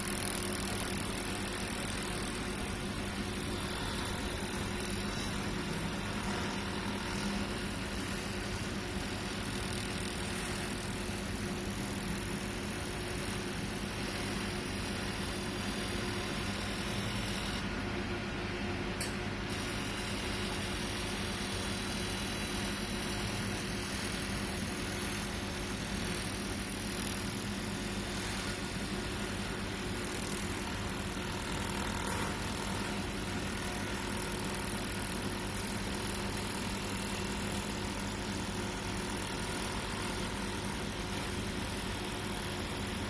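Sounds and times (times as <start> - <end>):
laser welding machine humming: 0.0 - 43.0.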